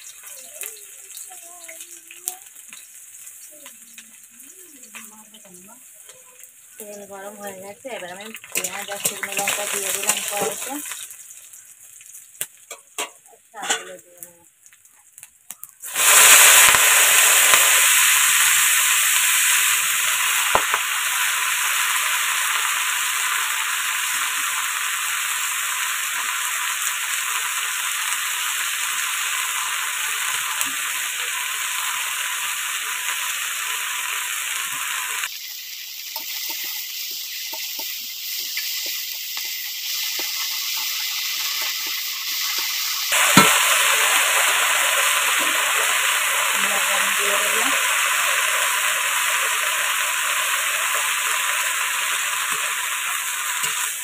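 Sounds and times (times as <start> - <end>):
greens sizzling in hot oil: 0.0 - 54.0.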